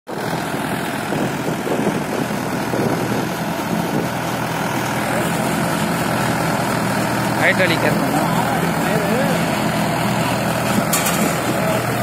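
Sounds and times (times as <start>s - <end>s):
tractor diesel engine running: 0.1s - 12.0s
baler machinery: 0.2s - 12.0s.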